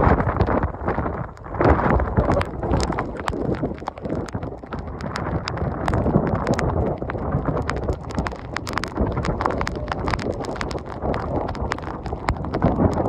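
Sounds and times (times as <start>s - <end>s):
strong wind gusting on microphone: 0.0s - 13.0s.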